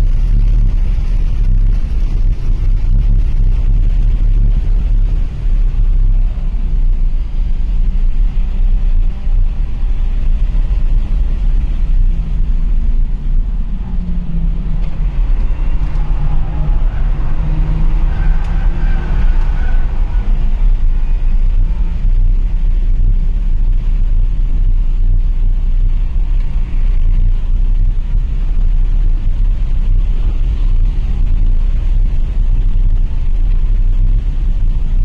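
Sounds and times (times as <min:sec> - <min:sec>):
car engine accelerating and shifting: 0:00.0 - 0:35.0
road and wind noise: 0:00.0 - 0:35.0.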